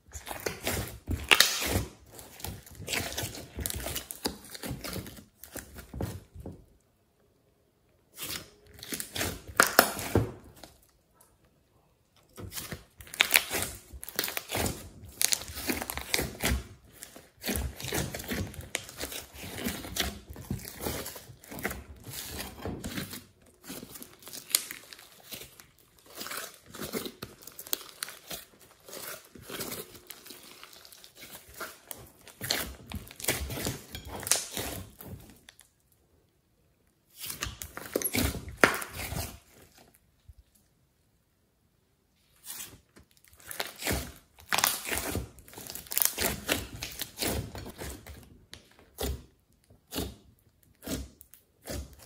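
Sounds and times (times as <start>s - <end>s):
slime squelching and crackling: 0.0s - 6.3s, 8.0s - 11.4s, 12.2s - 40.6s, 42.2s - 52.0s.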